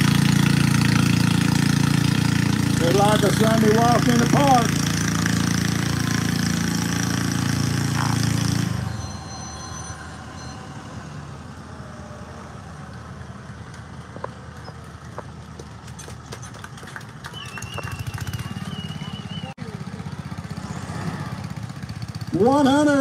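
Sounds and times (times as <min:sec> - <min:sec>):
lawn tractor engine straining: 0:00.0 - 0:11.7, 0:12.3 - 0:23.0.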